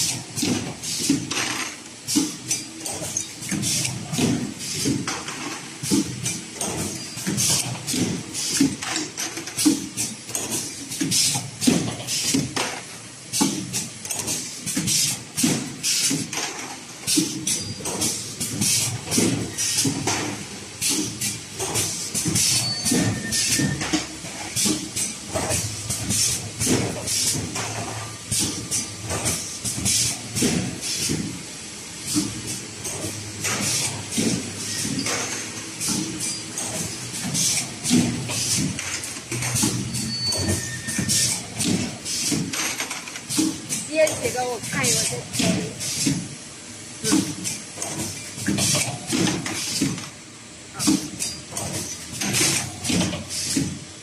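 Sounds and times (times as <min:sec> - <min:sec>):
welding machine hisses and clunks: 0:00.0 - 0:54.0.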